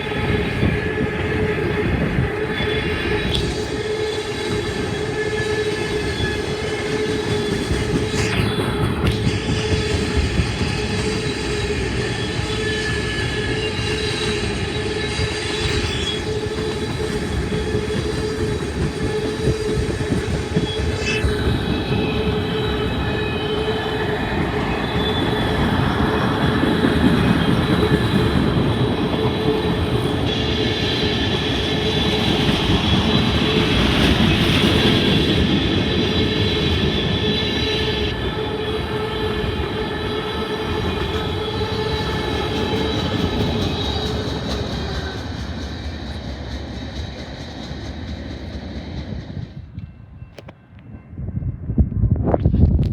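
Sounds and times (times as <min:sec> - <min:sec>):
wheels squealing on rails: 0:00.0 - 0:51.5
train cars rumbling past: 0:00.0 - 0:52.9.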